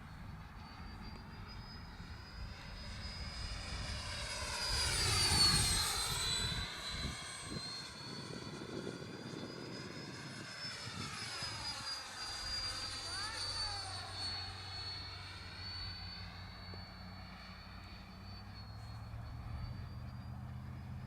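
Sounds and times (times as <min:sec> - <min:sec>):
model airplane whining past: 0:00.0 - 0:21.0.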